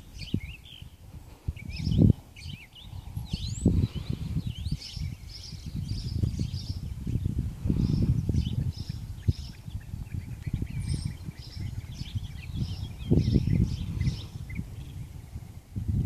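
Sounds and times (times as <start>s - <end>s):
small birds chirping: 0.0s - 15.6s
wind rumble on microphone: 0.0s - 16.0s.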